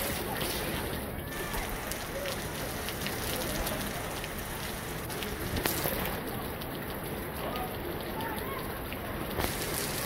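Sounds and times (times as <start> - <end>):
raindrops ticking close by: 0.0 - 10.0
steady rain hiss: 0.0 - 10.0.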